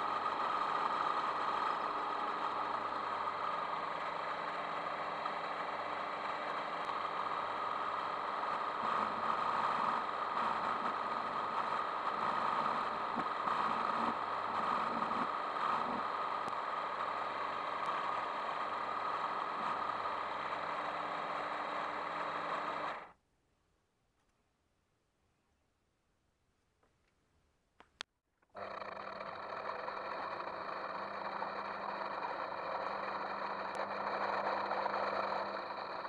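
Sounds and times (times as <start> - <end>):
metal lathe whining: 0.0 - 23.1, 28.6 - 36.0.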